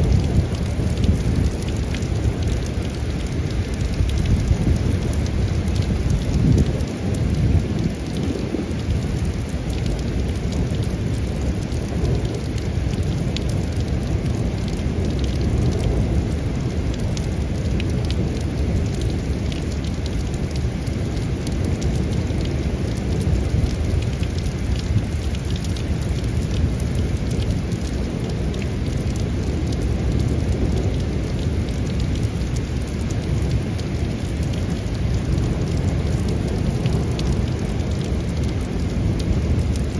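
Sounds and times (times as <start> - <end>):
heavy rain: 0.0 - 39.9
raindrops ticking: 0.0 - 39.9
thunder rumbling: 0.0 - 39.9.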